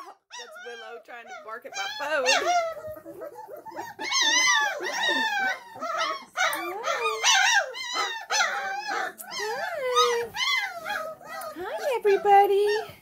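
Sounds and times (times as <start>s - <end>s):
puppies whining and yelping: 0.0s - 13.0s.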